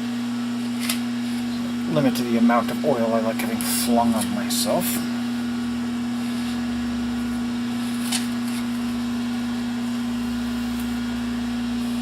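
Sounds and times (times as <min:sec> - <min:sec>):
metal lathe running: 0:00.7 - 0:12.0.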